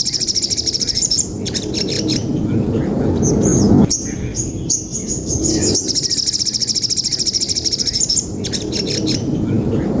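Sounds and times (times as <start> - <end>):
sparrow trill and chirps: 0.0 - 10.0.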